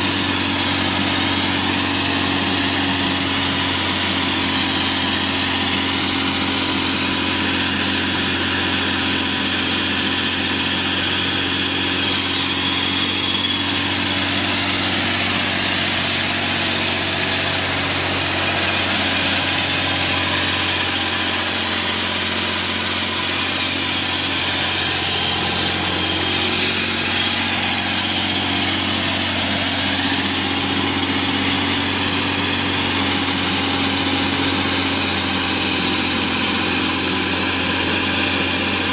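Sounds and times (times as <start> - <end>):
concrete saw engine running: 0.0 - 38.9.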